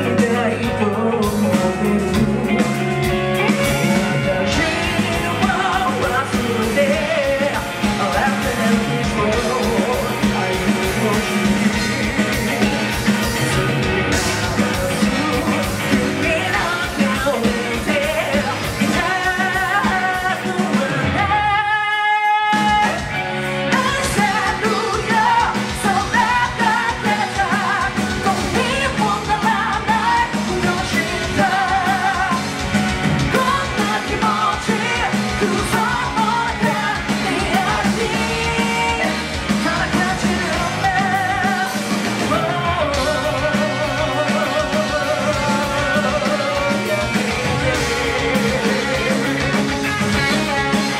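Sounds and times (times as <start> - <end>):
lead vocal singing: 0.0 - 50.9
live rock band playing: 0.0 - 50.9.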